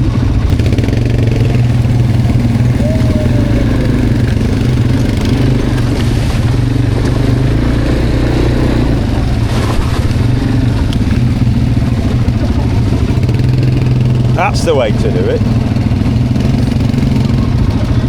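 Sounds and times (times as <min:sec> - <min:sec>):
noisy rattle: 0:00.0 - 0:18.0
quad bike engine running: 0:00.0 - 0:18.0.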